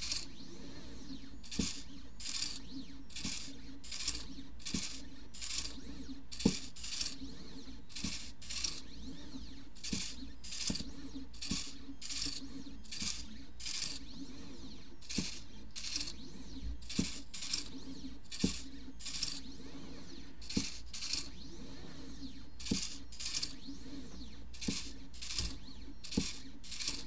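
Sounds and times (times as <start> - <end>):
stepper motor buzzing: 0.0 - 27.0.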